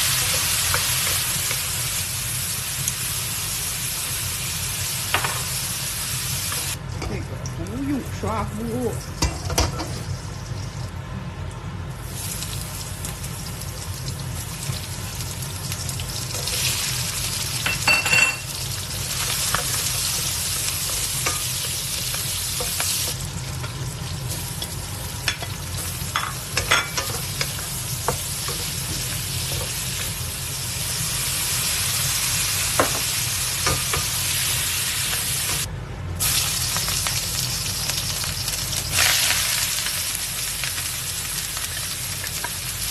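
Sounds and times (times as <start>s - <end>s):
food sizzling in a wok: 0.0s - 7.1s, 7.9s - 11.0s, 11.8s - 42.9s.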